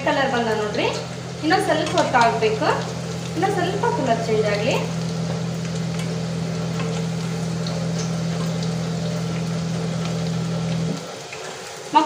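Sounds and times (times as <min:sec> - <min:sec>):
low hum: 0:00.0 - 0:11.0
deep-frying sizzle in oil: 0:00.0 - 0:12.0.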